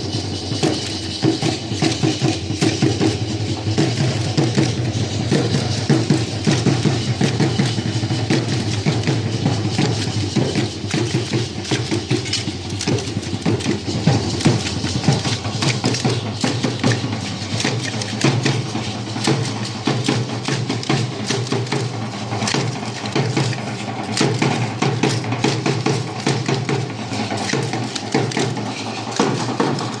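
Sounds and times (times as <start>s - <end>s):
drum beating fast dance rhythm: 0.0s - 30.0s
sharp clicking strokes: 0.0s - 30.0s.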